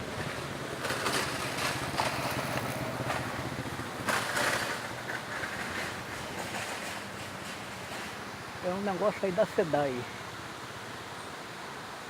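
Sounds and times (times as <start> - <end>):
water rushing at a dam: 0.0 - 12.0.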